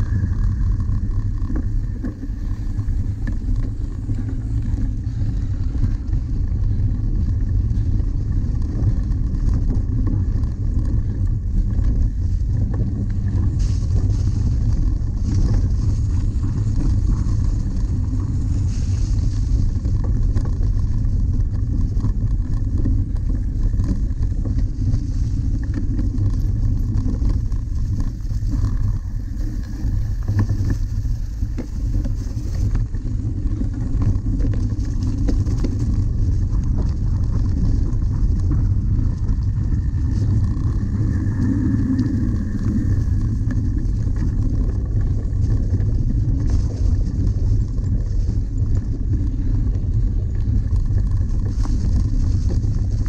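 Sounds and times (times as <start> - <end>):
bike rattling over bumps: 0.0 - 53.0
wind buffeting microphone: 0.0 - 53.0.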